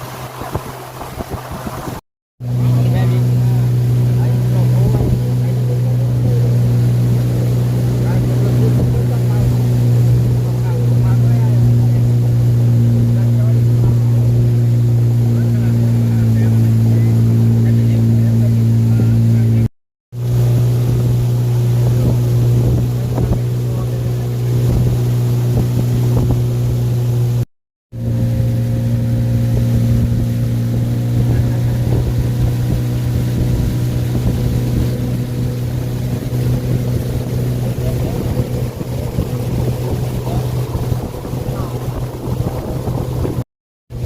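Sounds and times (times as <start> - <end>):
motorboat engine droning: 0.0 - 44.0
water and wind noise: 0.0 - 44.0.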